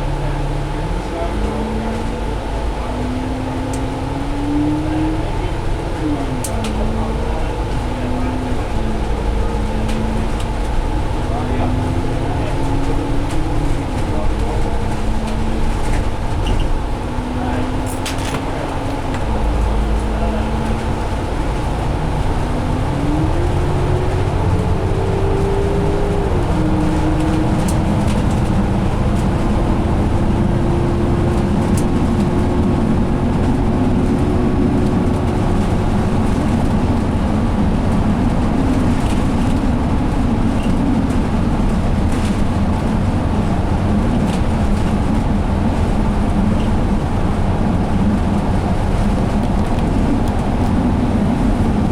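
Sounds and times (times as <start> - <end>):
bus drivetrain hum: 0.0 - 51.9
road and tyre rumble: 0.0 - 51.9.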